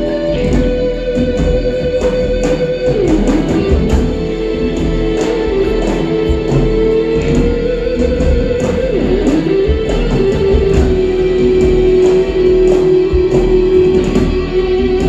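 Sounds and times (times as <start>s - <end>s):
cymbals: 0.0s - 15.0s
electric guitar lead: 0.0s - 15.0s
rock band playing: 0.0s - 15.0s.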